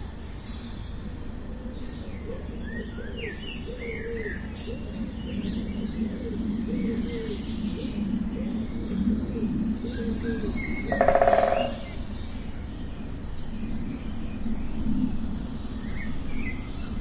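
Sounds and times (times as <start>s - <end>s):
low background rumble: 0.0s - 17.0s
birds chirping: 0.4s - 17.0s
low arching bird calls: 0.5s - 17.0s.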